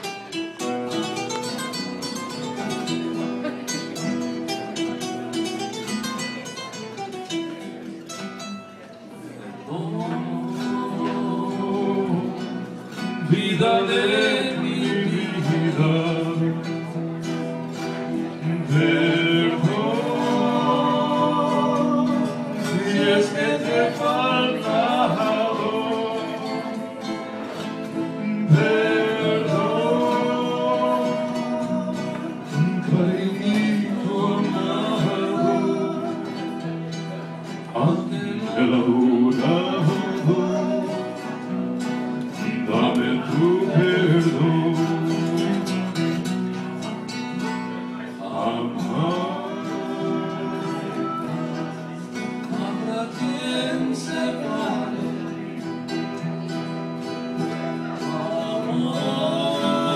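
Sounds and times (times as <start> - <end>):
acoustic guitars playing: 0.0 - 59.9
man singing: 9.4 - 59.9.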